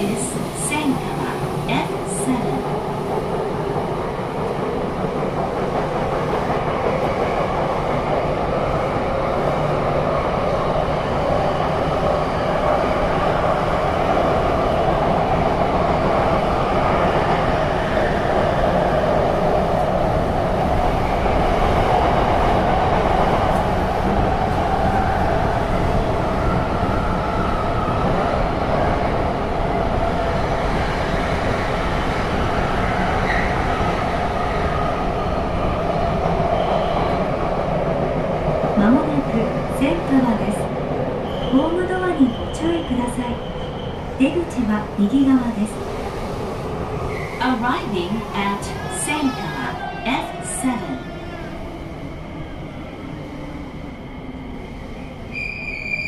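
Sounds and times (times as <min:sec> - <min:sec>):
train wheel and running noise: 0:00.0 - 0:56.0.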